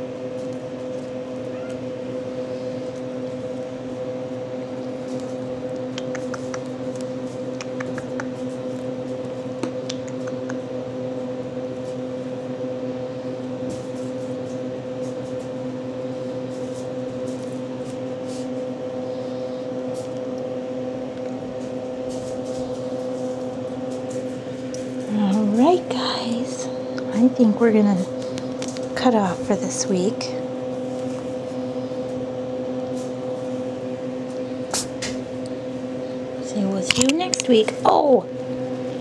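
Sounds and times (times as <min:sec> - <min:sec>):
steady machine hum: 0:00.0 - 0:39.0.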